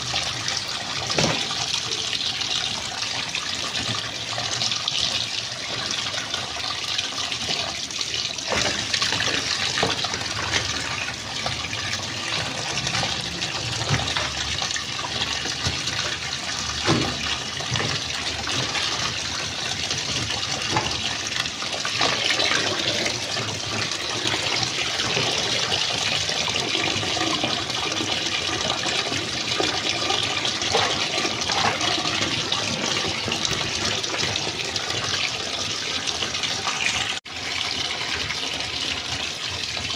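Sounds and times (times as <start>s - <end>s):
water splashing in washing machine: 0.0s - 39.9s.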